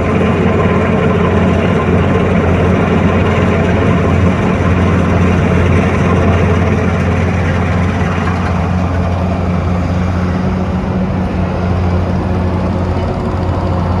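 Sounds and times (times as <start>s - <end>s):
combine harvester diesel engine: 0.0s - 14.0s.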